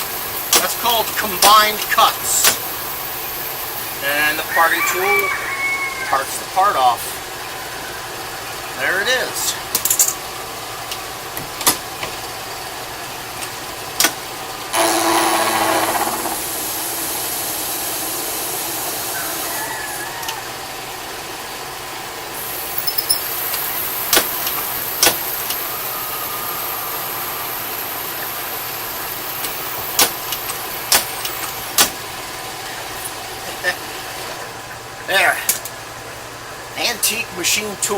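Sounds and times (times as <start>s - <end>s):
lathe machine running: 0.0s - 4.6s, 6.4s - 19.5s, 20.5s - 35.2s.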